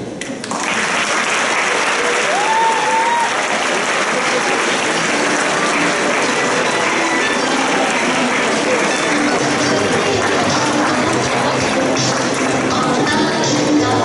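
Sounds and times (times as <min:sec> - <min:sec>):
audience applauding: 0:00.4 - 0:13.7.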